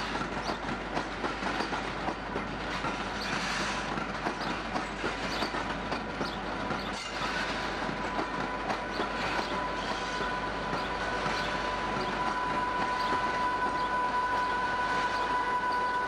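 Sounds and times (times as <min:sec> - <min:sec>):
train wheels clicking over rail joints: 0:00.0 - 0:14.6.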